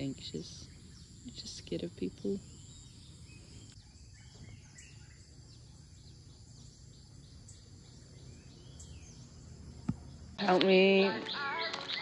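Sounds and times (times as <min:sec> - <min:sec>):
high insect hum: 0:00.0 - 0:11.8.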